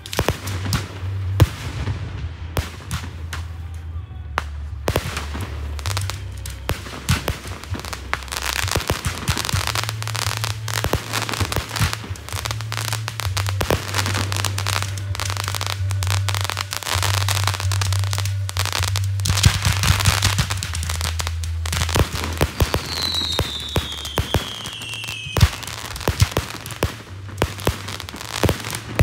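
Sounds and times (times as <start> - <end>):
fireworks crackling and banging: 0.0 - 29.0
steady low hum: 0.0 - 29.0.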